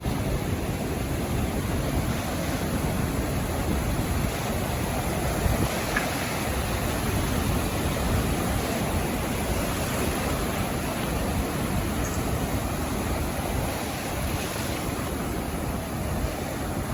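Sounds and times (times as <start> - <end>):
sea waves washing on beach: 0.0 - 16.9.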